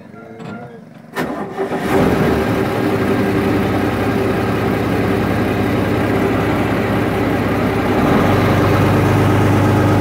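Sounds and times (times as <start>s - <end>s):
boat diesel engine running: 1.8s - 10.0s.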